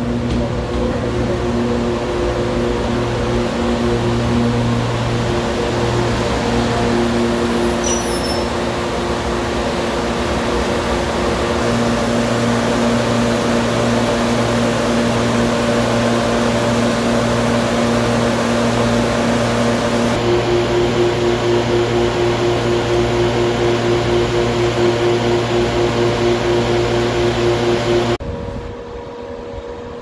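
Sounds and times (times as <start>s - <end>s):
locomotive blowers humming: 0.0s - 28.2s.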